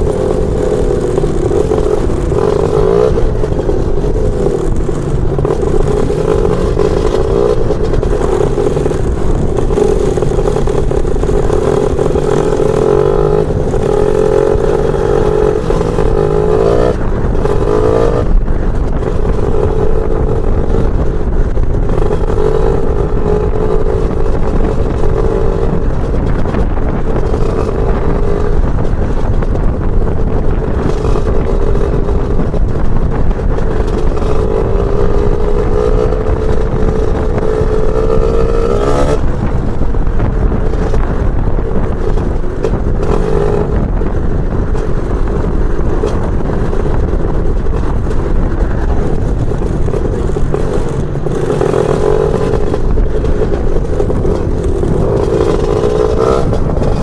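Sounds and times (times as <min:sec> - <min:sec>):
two-stroke scooter engine: 0:00.0 - 0:57.0.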